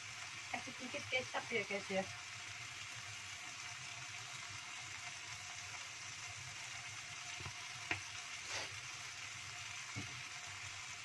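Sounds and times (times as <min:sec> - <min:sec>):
stir-fry sizzling in a wok: 0:00.0 - 0:11.0.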